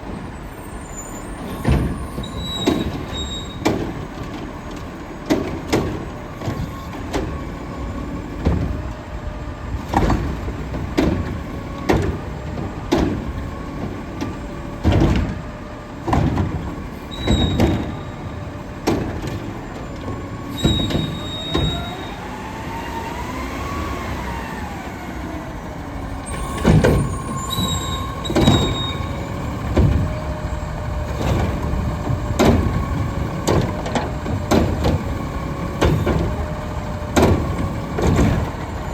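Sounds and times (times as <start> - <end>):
diesel truck engine running: 0.0 - 38.9
carts banging and knocking: 1.4 - 9.0, 9.8 - 38.9
hydraulic whine: 5.5 - 38.9.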